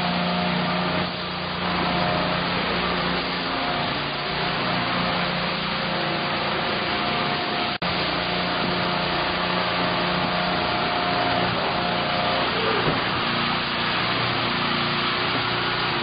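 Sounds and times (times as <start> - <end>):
machine hum with hiss: 0.0 - 16.0.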